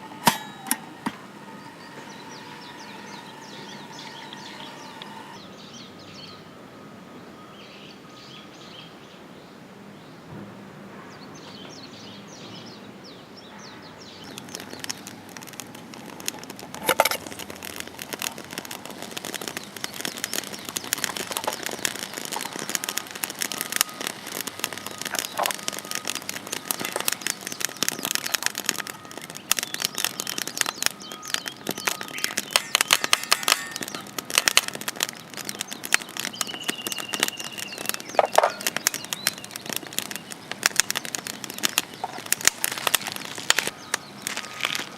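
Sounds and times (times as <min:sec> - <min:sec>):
campfire crackling and popping: 0:00.0 - 0:05.4, 0:14.0 - 0:44.9
faint birds chirping: 0:00.0 - 0:10.4, 0:11.0 - 0:44.9.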